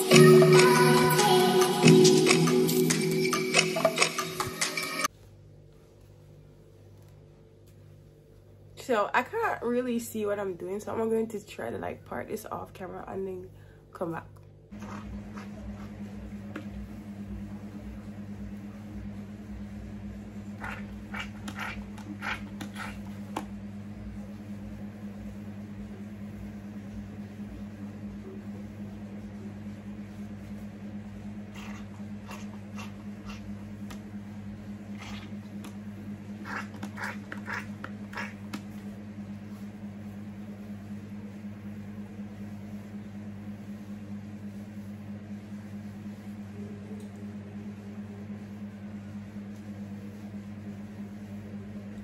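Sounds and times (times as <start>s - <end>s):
low electrical hum: 5.0s - 52.0s.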